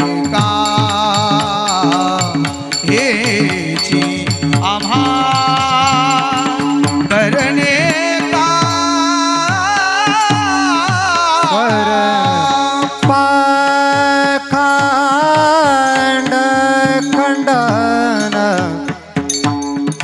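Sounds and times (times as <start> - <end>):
person singing wordless melody: 0.0 - 20.0.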